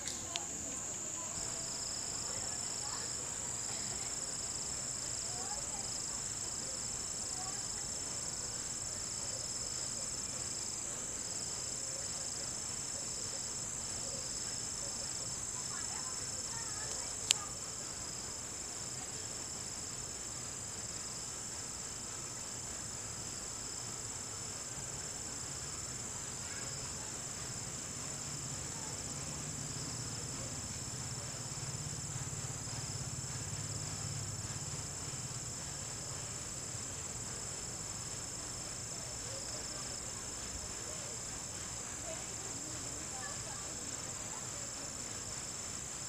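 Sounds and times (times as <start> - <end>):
night insects chorus: 0.0 - 46.0.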